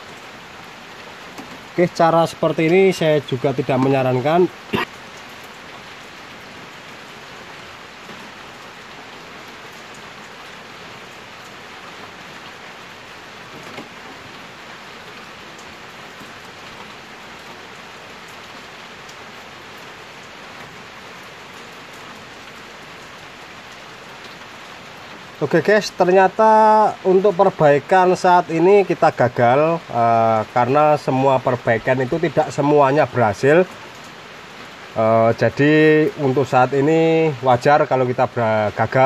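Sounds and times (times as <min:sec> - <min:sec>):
light rain patter: 0:00.0 - 0:39.0.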